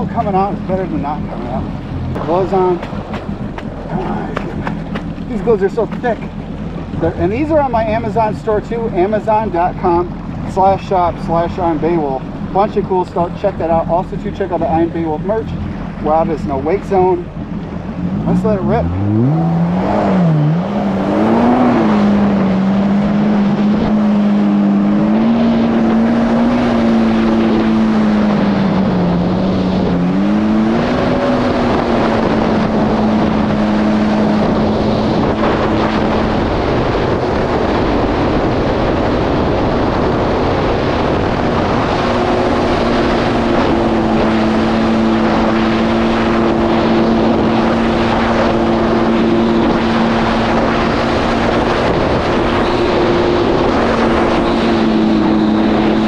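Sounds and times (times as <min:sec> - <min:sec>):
jet ski engine at speed: 0:00.0 - 0:56.0
wind and water rushing: 0:00.0 - 0:56.0.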